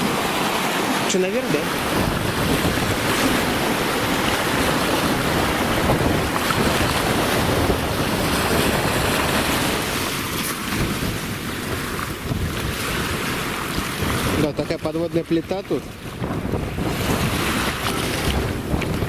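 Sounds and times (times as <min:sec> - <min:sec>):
surf washing onto shore: 0:00.0 - 0:19.0
wind buffeting microphone: 0:00.0 - 0:19.0.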